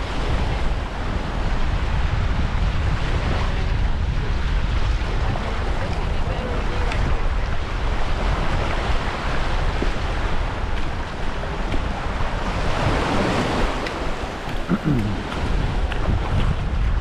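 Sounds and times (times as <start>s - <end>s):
waves washing on beach: 0.0s - 17.0s
wind buffeting microphone: 0.0s - 17.0s.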